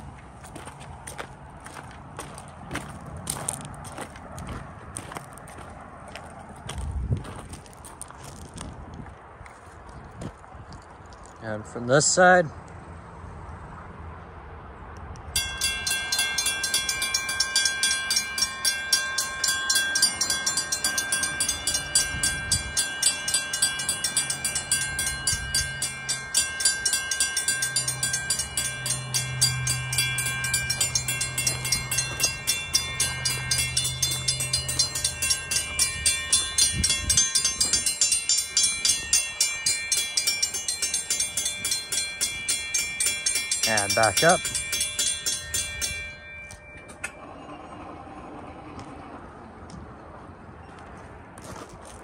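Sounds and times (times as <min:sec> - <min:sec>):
railroad crossing bells ringing: 0:00.0 - 0:08.5, 0:15.2 - 0:49.0.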